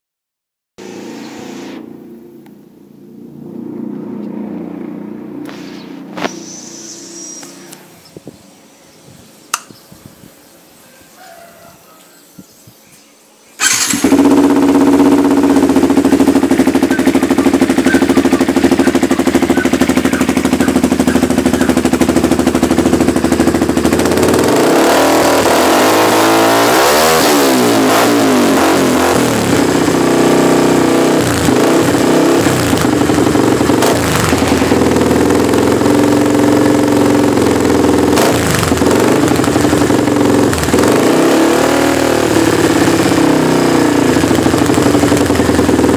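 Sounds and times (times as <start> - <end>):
motorcycle engine starting and idling: 0.8 - 8.3, 13.5 - 45.9
motorcycle throttle blips: 0.8 - 8.4, 9.4 - 10.0, 13.6 - 45.9.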